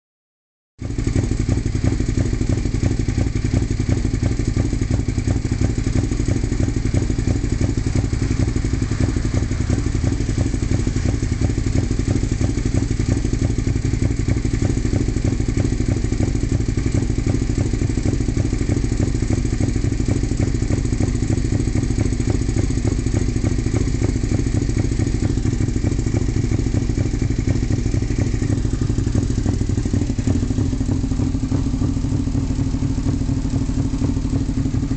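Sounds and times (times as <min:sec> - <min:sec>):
motorcycle engine idling rough: 0:00.8 - 0:34.9.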